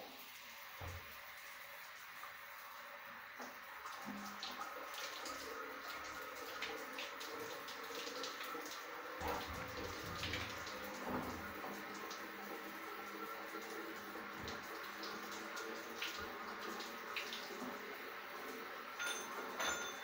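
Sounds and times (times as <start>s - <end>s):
water rushing from shower: 0.0s - 20.0s.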